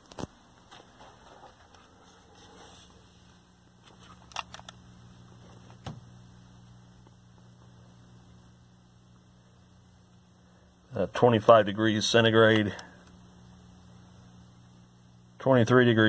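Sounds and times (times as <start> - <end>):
faint low electrical hum: 0.0 - 16.0.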